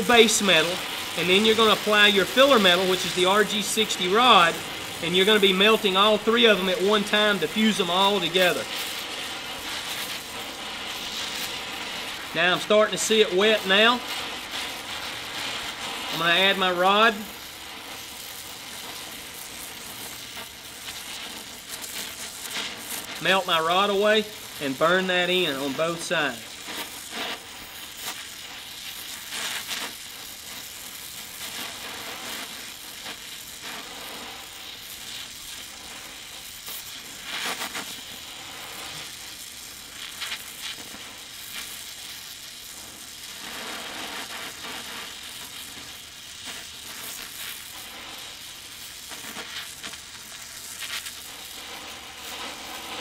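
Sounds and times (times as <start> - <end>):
molten metal crackling: 0.0 - 53.0
welding torch flame hissing: 0.0 - 53.0.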